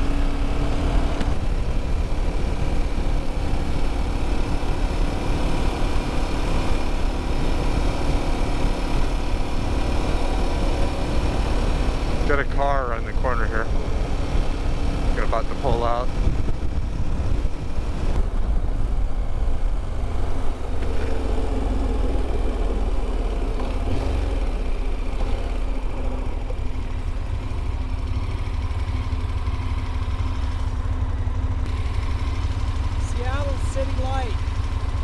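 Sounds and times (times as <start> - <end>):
motorcycle engine running: 0.0 - 35.0
wind rumble: 0.0 - 35.0.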